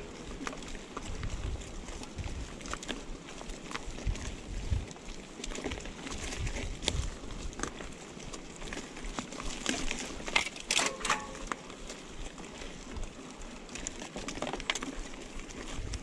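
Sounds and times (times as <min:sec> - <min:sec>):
bike rattling over dirt trail: 0:00.0 - 0:16.0.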